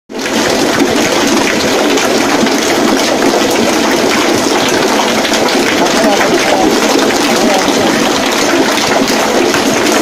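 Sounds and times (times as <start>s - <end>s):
batter mixer sloshing: 0.1s - 10.0s.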